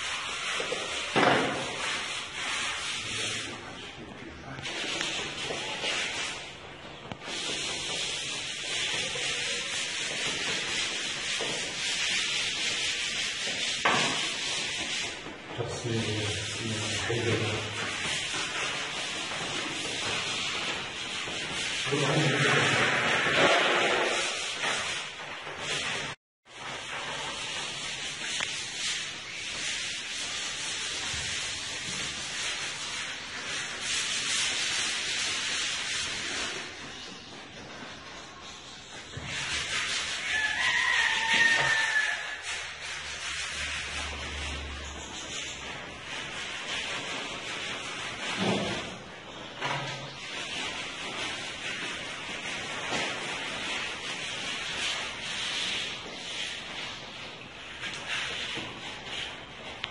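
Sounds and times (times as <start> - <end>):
pad rubbing on plaster wall: 0.0 - 4.0, 4.6 - 59.9.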